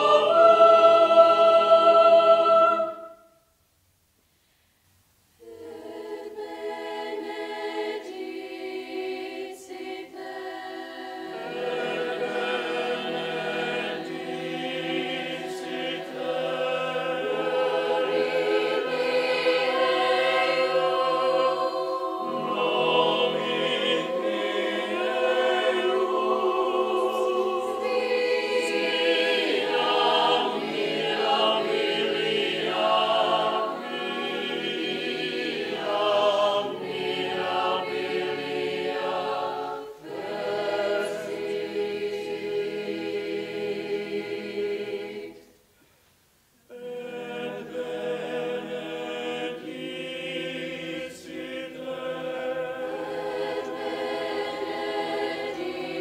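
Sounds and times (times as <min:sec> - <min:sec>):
youth choir singing a cappella: 0:00.0 - 0:03.3, 0:05.4 - 0:45.6, 0:46.7 - 0:56.0.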